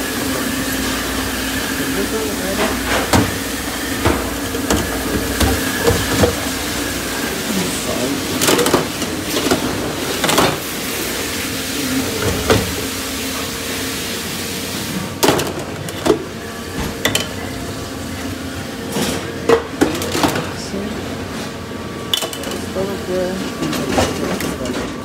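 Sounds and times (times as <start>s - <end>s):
dishes and racks clattering: 0.2s - 13.6s, 14.9s - 25.0s.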